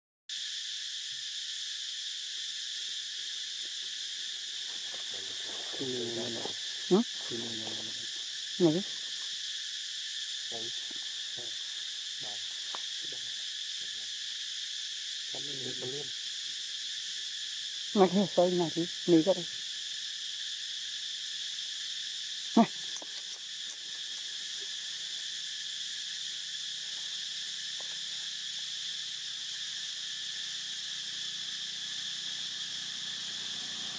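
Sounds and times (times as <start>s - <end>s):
high-pitched insect drone: 0.3s - 33.9s.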